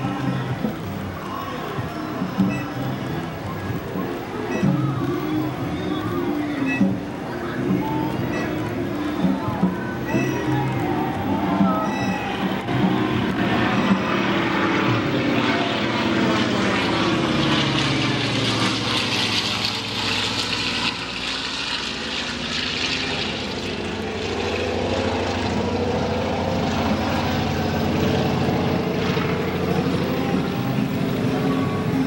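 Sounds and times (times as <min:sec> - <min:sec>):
propeller plane flying past: 0:00.0 - 0:32.0.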